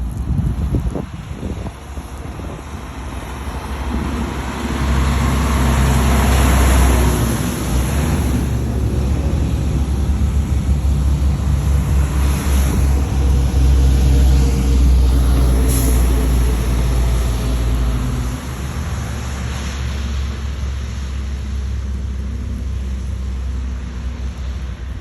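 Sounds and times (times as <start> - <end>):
wind noise: 0.0 - 20.9
car engine rumble: 0.0 - 25.0
road noise: 0.0 - 25.0.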